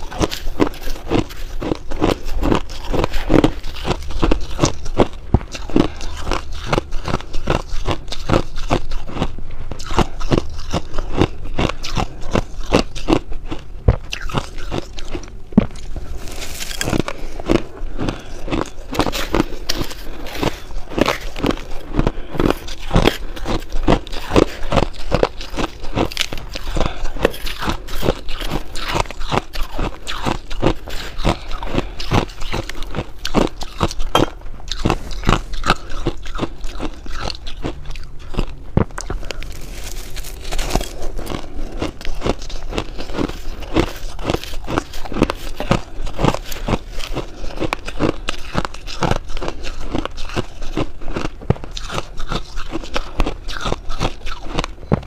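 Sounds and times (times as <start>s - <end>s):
person chewing crunchy ice: 0.0s - 55.0s.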